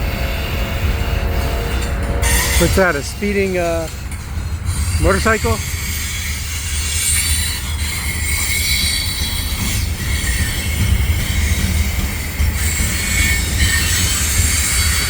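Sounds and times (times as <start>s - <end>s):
freight wheels rumbling on rail: 0.0s - 15.0s
wheels squealing on rail: 0.0s - 15.0s.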